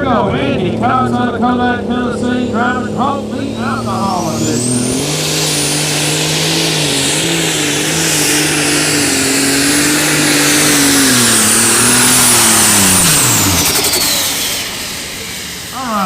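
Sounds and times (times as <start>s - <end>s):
tractor engine at full throttle: 0.0s - 16.0s
turbocharger whine: 0.0s - 16.0s.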